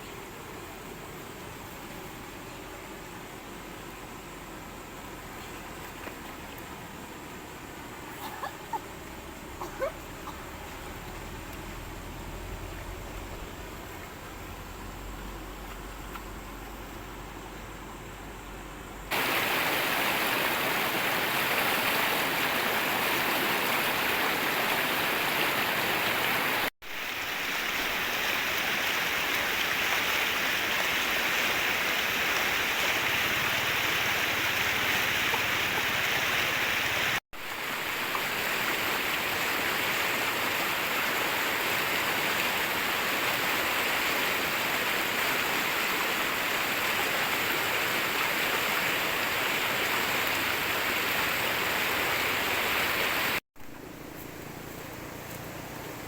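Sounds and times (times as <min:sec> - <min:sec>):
rushing water hiss: 0:00.0 - 0:56.0.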